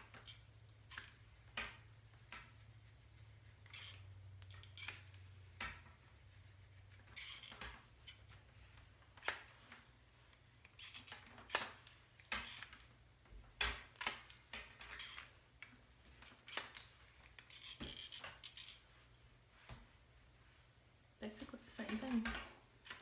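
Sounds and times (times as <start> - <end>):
hair rustling: 0.0 - 23.0.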